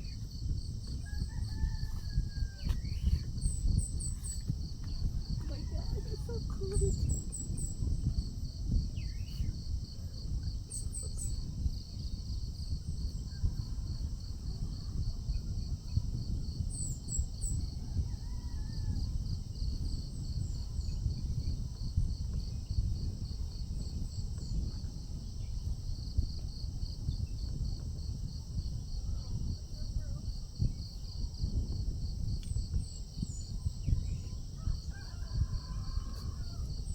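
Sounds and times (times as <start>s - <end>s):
high insect hum: 0.0s - 36.9s
insects chirping: 0.0s - 36.9s
steady low rumble: 2.3s - 34.9s.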